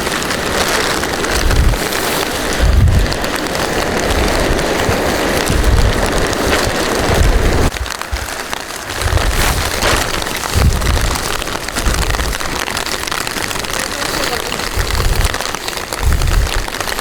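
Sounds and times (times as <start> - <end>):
low rumbles: 0.0 - 17.0
rain falling: 0.0 - 17.0.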